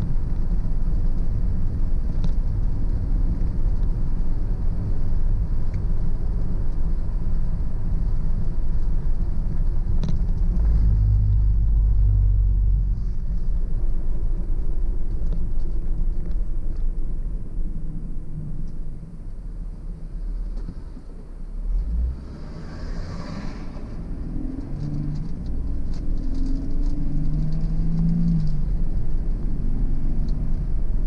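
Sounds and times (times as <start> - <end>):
car road and engine rumble: 0.0 - 31.0
heavy low rumble: 0.0 - 31.0.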